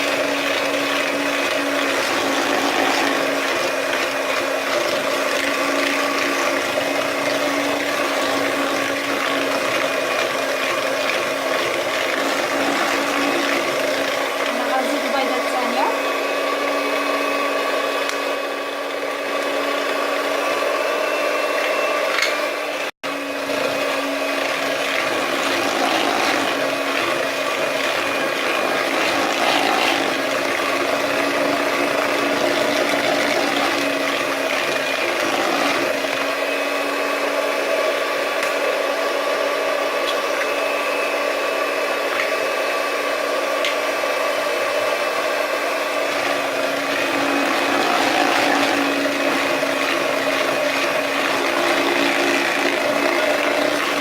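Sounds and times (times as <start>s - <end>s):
electric hand mixer whining: 0.0s - 54.0s.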